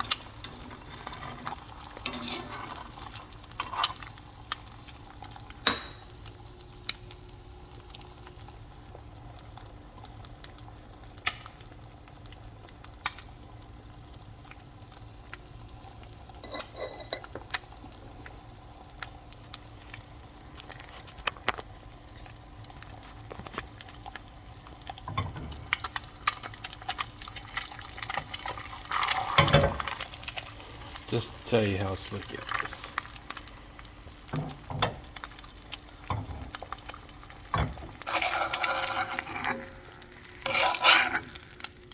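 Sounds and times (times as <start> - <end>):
egg sizzling in a skillet: 0.0 - 41.9.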